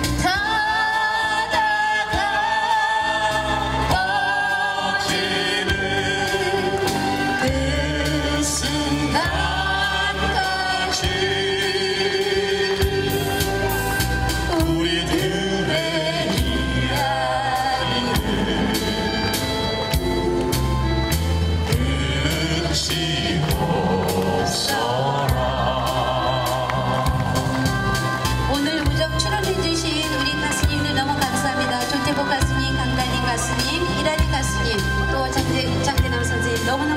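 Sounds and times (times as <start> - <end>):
person singing with vibrato: 0.0 - 13.8, 14.4 - 36.8
instrumental accompaniment: 0.0 - 36.9
steady bass line: 0.0 - 36.9.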